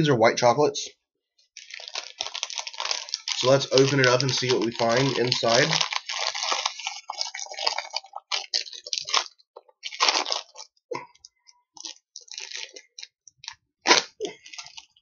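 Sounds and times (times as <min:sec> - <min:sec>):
plastic bag crinkling: 0:01.6 - 0:15.0.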